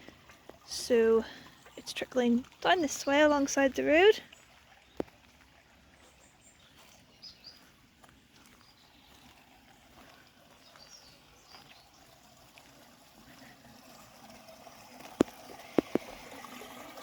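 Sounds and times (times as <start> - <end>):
water trickling in ditch: 0.0 - 17.0.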